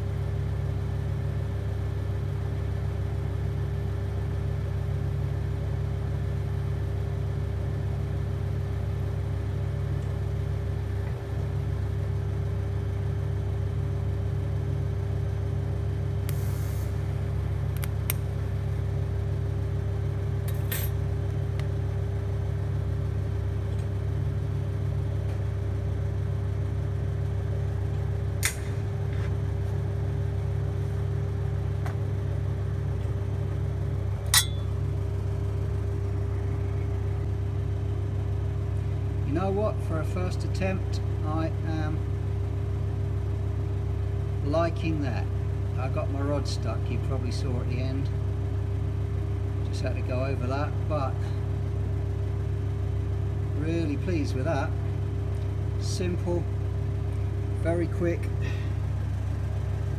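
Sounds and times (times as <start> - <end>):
welder electrical hum: 0.0 - 59.9.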